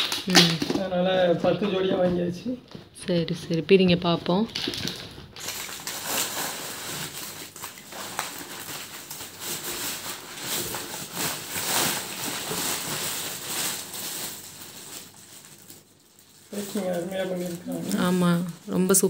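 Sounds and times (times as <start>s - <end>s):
packaging crinkling and rustling: 0.0s - 1.1s, 4.3s - 19.0s.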